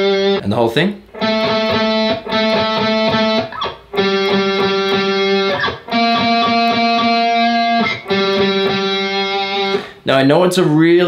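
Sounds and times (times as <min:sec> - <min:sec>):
distorted electric guitar riff: 0:00.0 - 0:00.4, 0:01.0 - 0:10.0.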